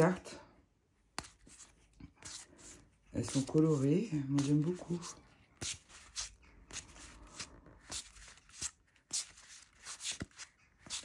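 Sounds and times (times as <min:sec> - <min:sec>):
cards flicking and sliding: 0:01.1 - 0:11.0.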